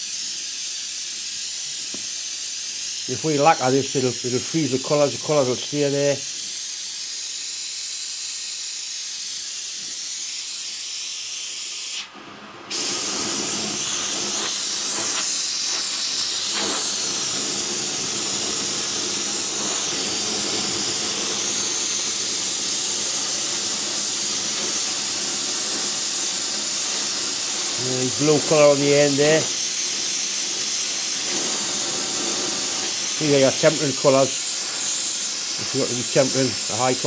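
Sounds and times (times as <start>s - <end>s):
gas torch flame hissing: 0.0s - 37.0s.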